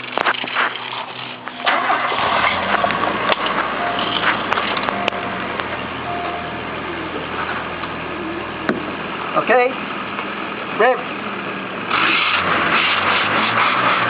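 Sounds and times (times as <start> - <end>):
car engine starting and idling: 0.0 - 14.0.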